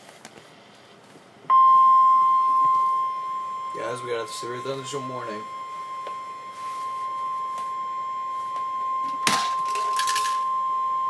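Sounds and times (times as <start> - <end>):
weather radio alarm tone: 1.5 - 11.0.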